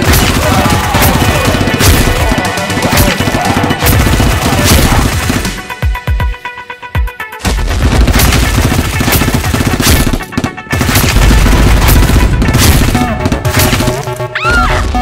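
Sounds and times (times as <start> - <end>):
automatic gunfire: 0.0 - 5.6, 7.5 - 14.2
action music: 0.0 - 15.0.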